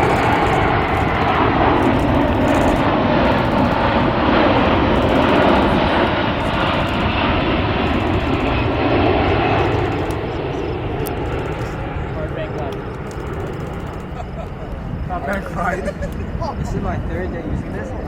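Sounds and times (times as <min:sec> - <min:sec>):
airplane flying past: 0:00.0 - 0:18.0.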